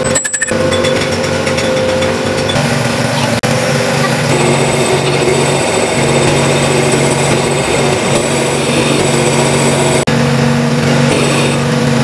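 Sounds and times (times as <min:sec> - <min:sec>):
metal lathe humming: 0:01.4 - 0:12.0.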